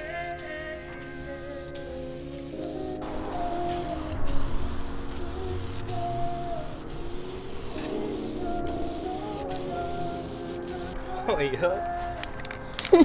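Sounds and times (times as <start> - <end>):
spray paint can hissing: 0.0 - 11.0
background music with melody: 0.0 - 13.0.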